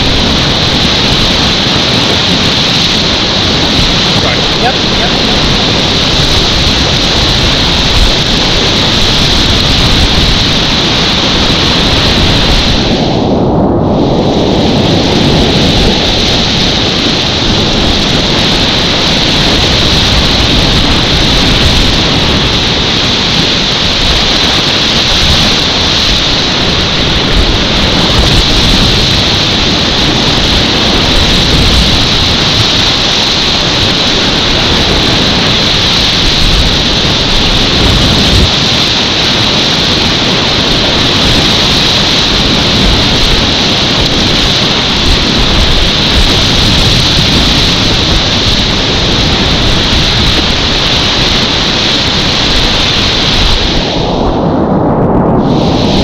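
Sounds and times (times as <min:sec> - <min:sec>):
whitewater rushing: 0:00.0 - 0:13.2, 0:14.1 - 0:54.2.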